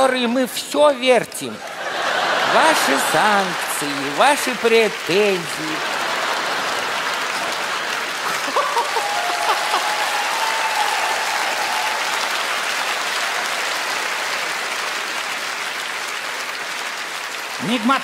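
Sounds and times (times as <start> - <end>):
studio audience applauding: 1.6 - 18.0.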